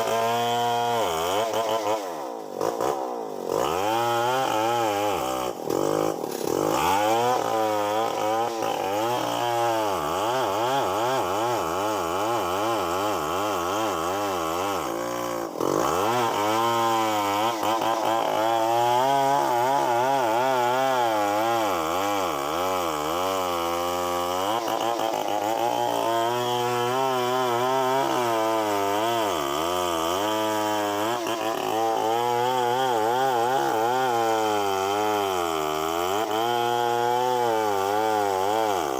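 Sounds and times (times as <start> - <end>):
chainsaw cutting: 0.0 - 38.9.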